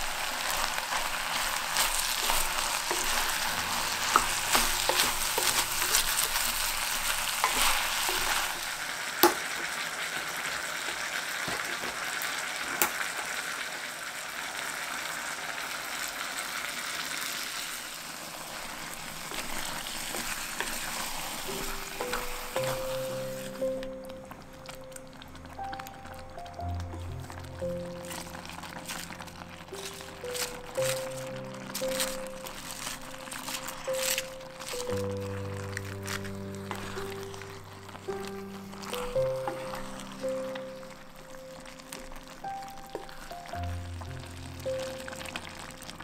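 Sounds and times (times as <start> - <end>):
wooden spatula stirring: 0.0 - 10.3, 18.4 - 46.0
food sizzling in hot oil: 0.0 - 46.0.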